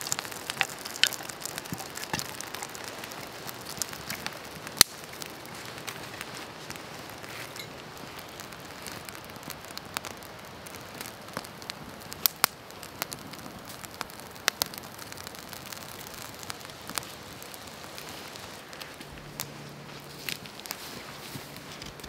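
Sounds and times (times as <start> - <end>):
sharp pops of fire: 0.0 - 22.0
soft fire hiss: 0.0 - 22.0
twig fire crackling: 0.0 - 22.0.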